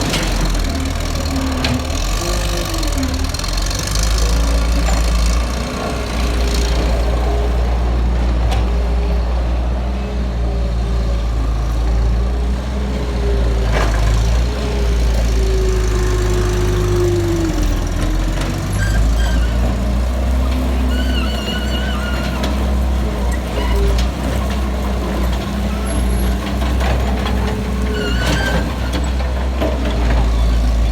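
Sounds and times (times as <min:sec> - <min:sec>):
diesel engine under load: 0:00.0 - 0:30.9.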